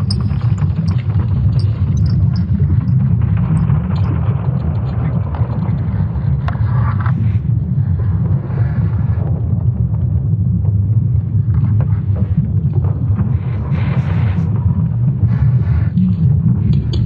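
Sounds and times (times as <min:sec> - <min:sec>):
deep steady rumble: 0:00.0 - 0:17.0.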